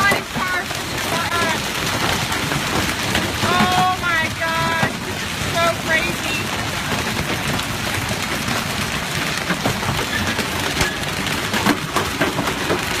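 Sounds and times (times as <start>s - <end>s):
hailstones striking hard surfaces: 0.0s - 13.0s.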